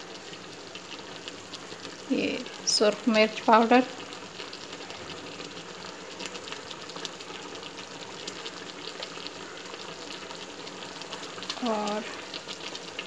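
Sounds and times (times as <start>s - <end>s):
masala sizzling in hot oil: 0.0s - 13.0s.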